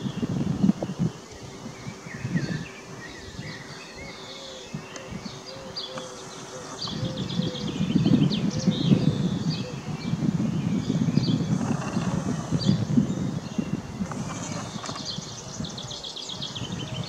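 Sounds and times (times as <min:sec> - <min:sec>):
songbirds chirping: 0:00.0 - 0:17.0
wind rumble on microphone: 0:00.0 - 0:17.0.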